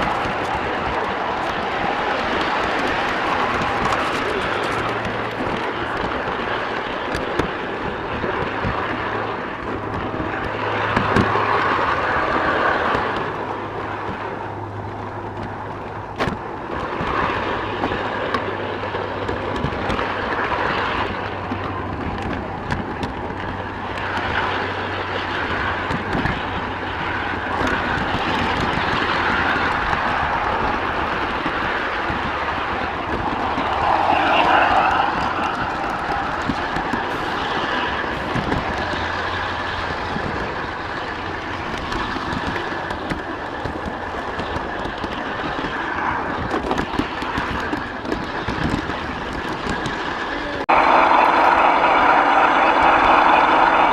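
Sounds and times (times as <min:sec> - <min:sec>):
clicks over rail joints: 0:00.0 - 0:53.9
wheels on rails: 0:00.0 - 0:53.9.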